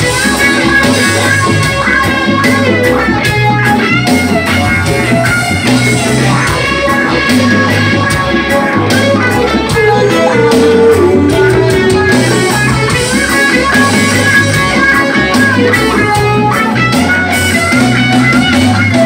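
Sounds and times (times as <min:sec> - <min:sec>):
bass guitar: 0:00.0 - 0:19.0
drum kit: 0:00.0 - 0:19.0
lead electric guitar: 0:00.0 - 0:19.0.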